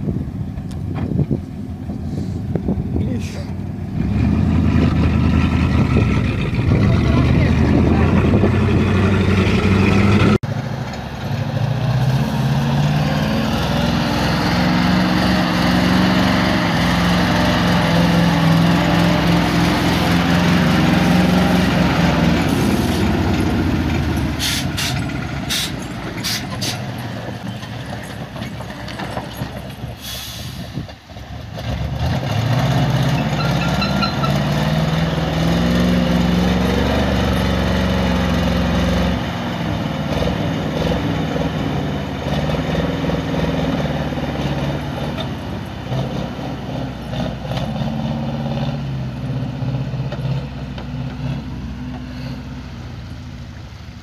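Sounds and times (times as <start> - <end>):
truck engine revving in mud: 3.9 - 30.6, 31.4 - 52.7.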